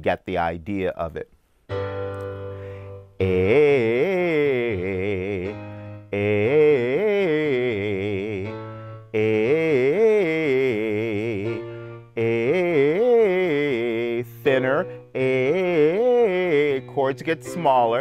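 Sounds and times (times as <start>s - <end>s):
keyboard accompaniment: 1.6s - 18.0s
man singing vocal exercise: 3.2s - 18.0s.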